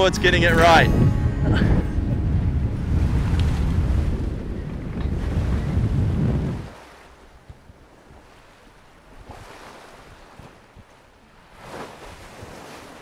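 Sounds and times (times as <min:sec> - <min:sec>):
sea waves washing: 0:00.0 - 0:13.0
wind: 0:00.0 - 0:13.0.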